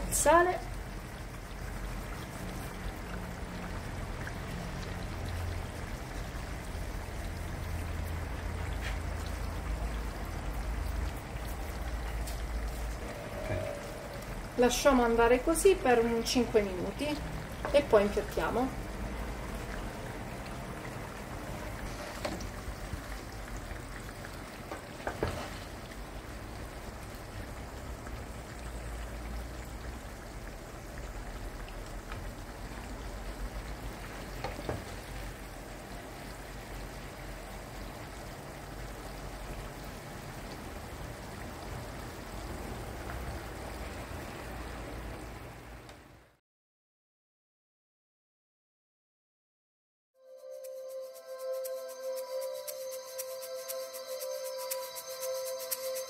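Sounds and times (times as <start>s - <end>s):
food sizzling in pan: 0.0s - 45.5s, 50.4s - 56.0s.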